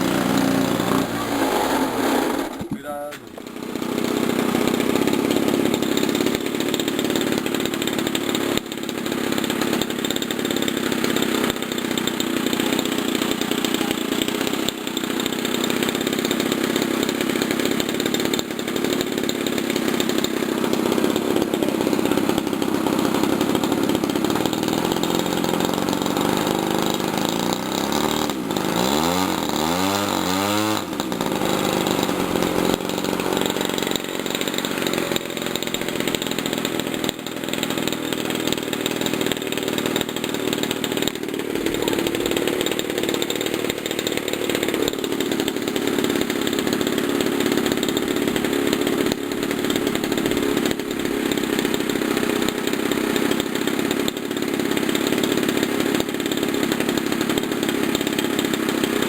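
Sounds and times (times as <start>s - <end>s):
model airplane engine running: 0.0s - 59.0s.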